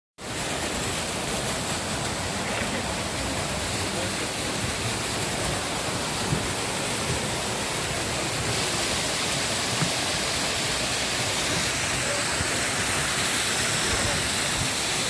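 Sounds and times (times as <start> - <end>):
waterfall roaring: 0.2 - 15.0.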